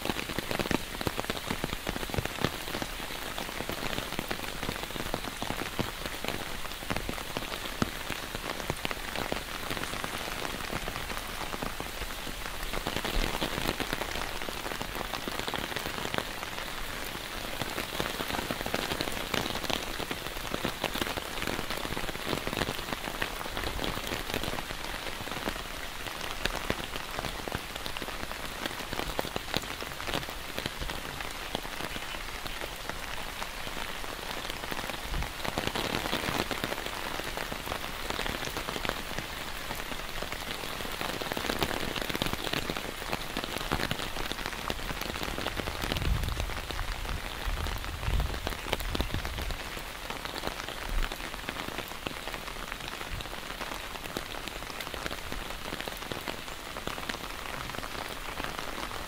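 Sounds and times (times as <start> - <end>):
heavy rain on an umbrella: 0.0 - 59.0.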